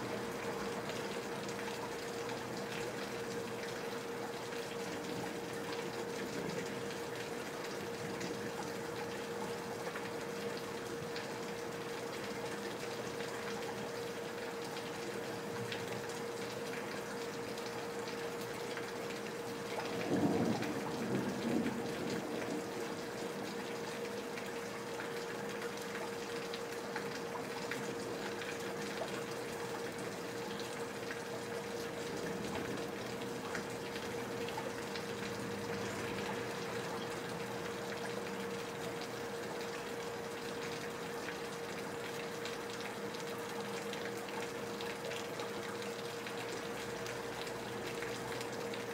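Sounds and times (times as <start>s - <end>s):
faint steady hum: 0.0s - 48.9s
steady rain falling: 0.0s - 48.9s
water pouring from gutters: 0.0s - 48.9s.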